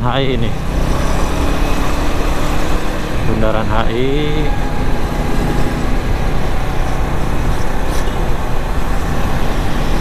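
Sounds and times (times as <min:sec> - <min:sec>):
motorcycle engine running: 0:00.0 - 0:10.0
road traffic: 0:00.0 - 0:10.0.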